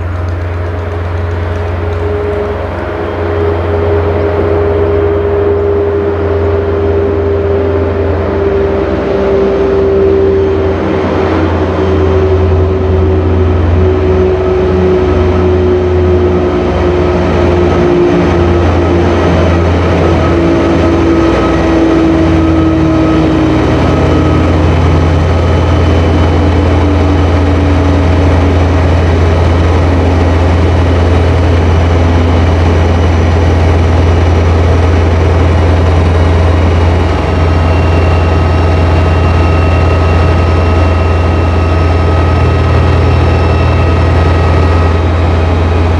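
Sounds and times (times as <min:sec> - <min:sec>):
diesel locomotive engine drone: 0:00.0 - 0:45.9
whine falling in pitch: 0:00.0 - 0:45.9.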